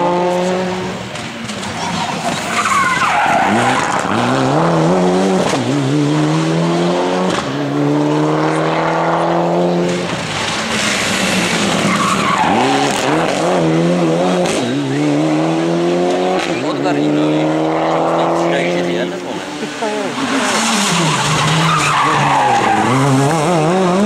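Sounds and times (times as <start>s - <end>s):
rally car engine revving: 0.0s - 24.0s
second rally car engine revving: 0.0s - 24.0s.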